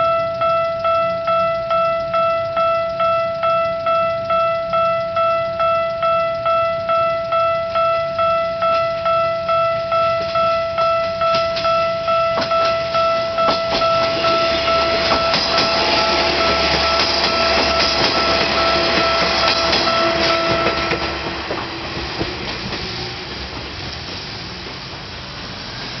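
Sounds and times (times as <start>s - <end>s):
crossing bell ringing: 0.0s - 22.8s
railcar engine rumbling: 0.0s - 26.0s
wheels clicking over rail joints: 0.1s - 25.1s.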